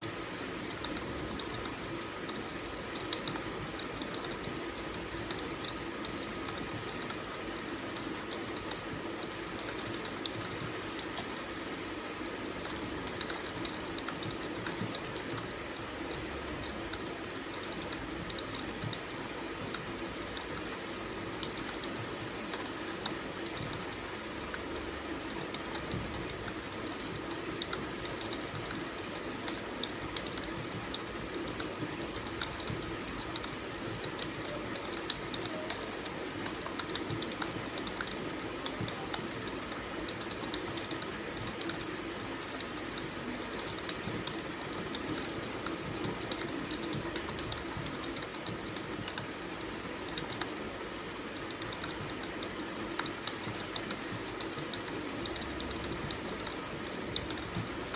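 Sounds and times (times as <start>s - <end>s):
fast typing on keyboard: 0.0s - 57.9s.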